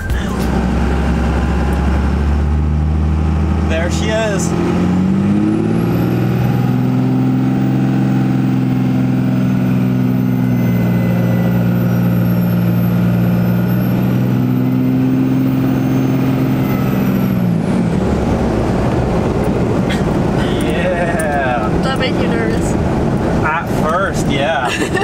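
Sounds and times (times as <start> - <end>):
diesel engine pulling: 0.0 - 25.0.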